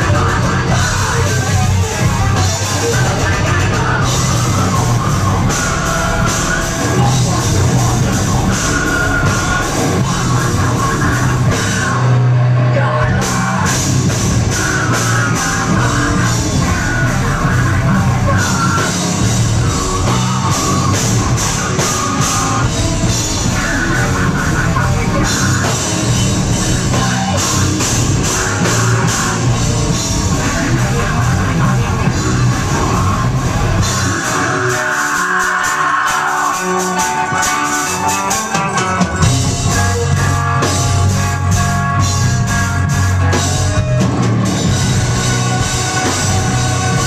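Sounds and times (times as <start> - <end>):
metalcore band playing loud: 0.0 - 47.0
vocalist on a microphone: 0.0 - 47.0.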